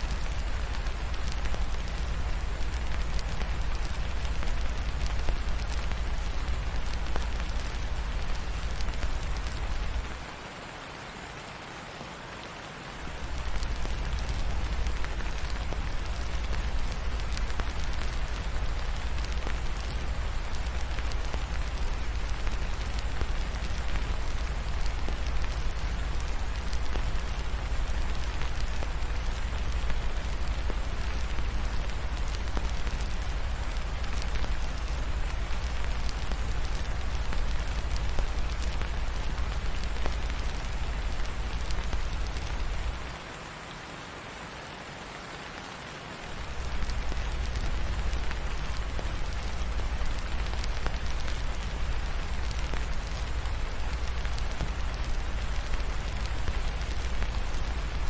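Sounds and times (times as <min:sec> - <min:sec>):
fireplace crackling: 0:00.0 - 0:11.2, 0:12.8 - 0:43.4, 0:46.2 - 0:58.0
steady rain falling: 0:00.0 - 0:58.0.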